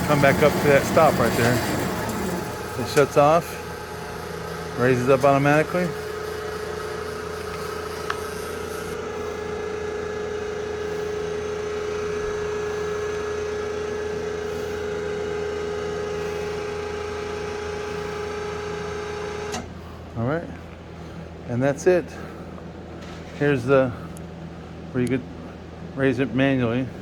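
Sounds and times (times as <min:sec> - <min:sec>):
band saw humming: 0:00.0 - 0:27.0.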